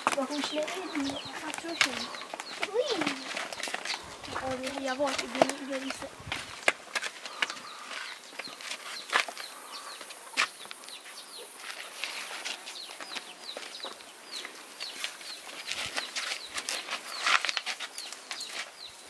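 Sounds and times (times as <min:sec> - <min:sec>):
feet scuffing on dirt: 0:00.0 - 0:19.0
small birds chirping: 0:00.0 - 0:19.0.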